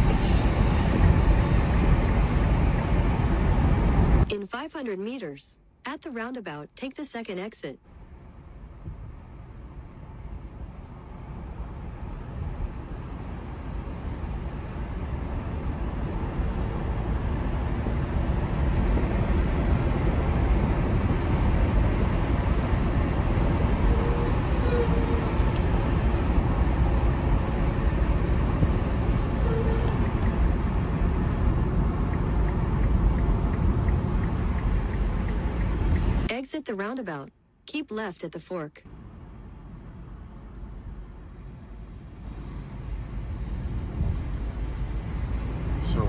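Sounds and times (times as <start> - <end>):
road and tyre noise in car: 0.0 - 4.4, 7.8 - 36.4, 38.8 - 46.0.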